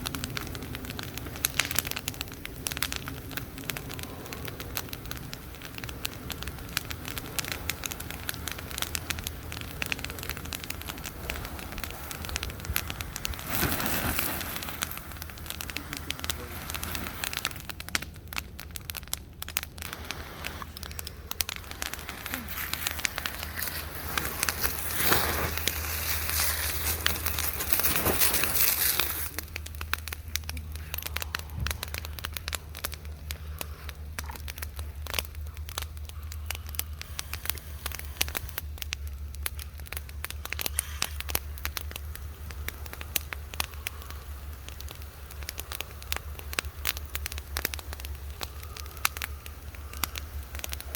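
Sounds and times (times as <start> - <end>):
bonfire crackling and popping: 0.0 - 50.9
rushing fire flare-up: 0.0 - 50.9.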